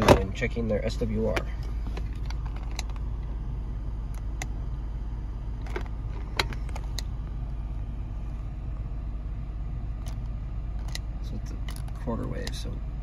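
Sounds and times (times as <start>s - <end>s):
low rumble of car cabin: 0.0s - 13.0s.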